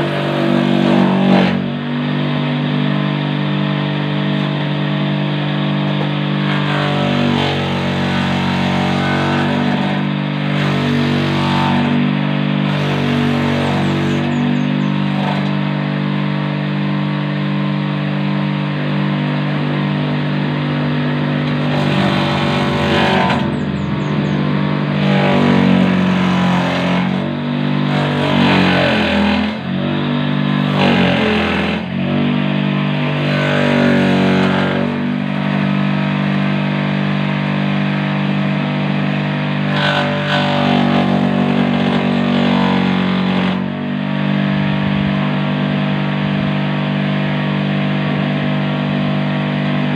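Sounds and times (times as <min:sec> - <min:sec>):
chopper shredding banana stems: 0:00.0 - 0:49.9
electric motor humming: 0:00.0 - 0:49.9.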